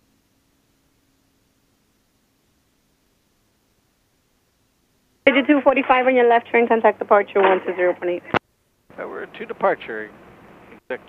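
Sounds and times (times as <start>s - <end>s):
faint steady hiss: 0.0s - 11.0s
low hum: 0.0s - 11.0s.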